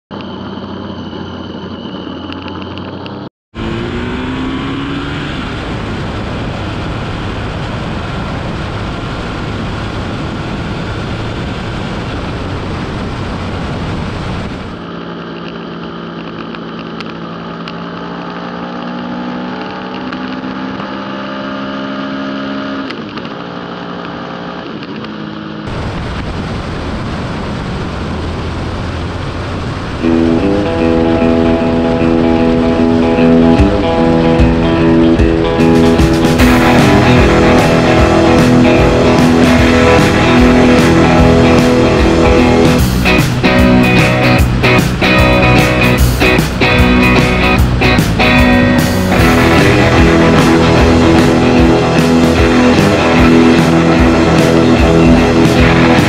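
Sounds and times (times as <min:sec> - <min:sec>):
motorcycle engine accelerating: 0:00.1 - 0:56.0
wind and road noise: 0:00.1 - 0:56.0.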